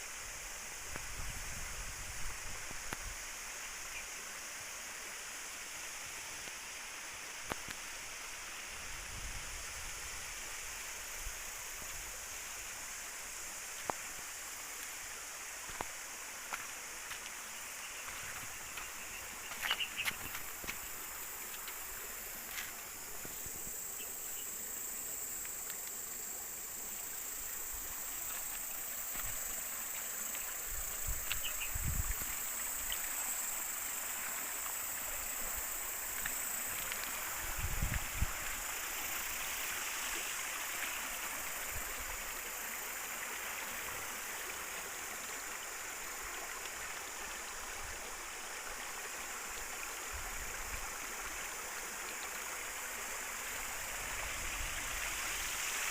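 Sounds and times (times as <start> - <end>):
insects trilling: 0.0 - 55.9
river water flowing: 1.8 - 55.9.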